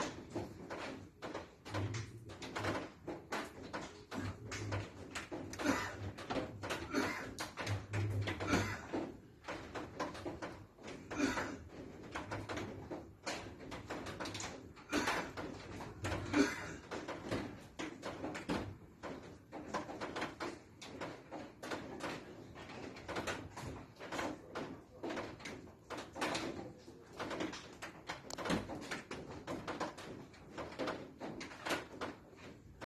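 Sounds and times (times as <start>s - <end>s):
muffled knocks and thumps: 0.0s - 32.9s.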